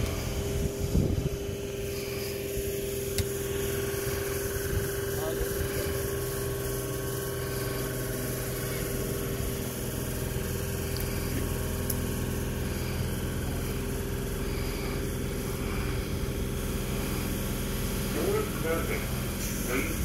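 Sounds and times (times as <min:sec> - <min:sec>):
electric train equipment humming: 0:00.0 - 0:20.0.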